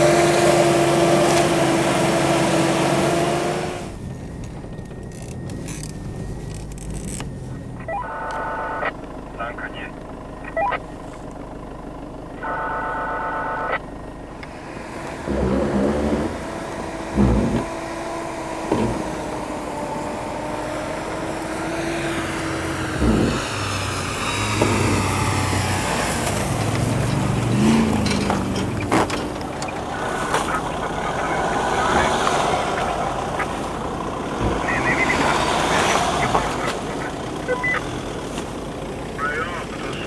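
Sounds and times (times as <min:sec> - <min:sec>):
car engine driving on snow: 0:00.0 - 0:40.0.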